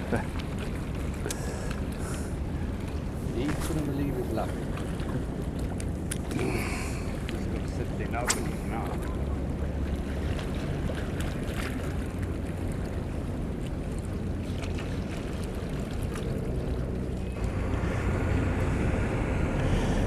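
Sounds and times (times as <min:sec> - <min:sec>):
water lapping around boat: 0:00.0 - 0:20.0.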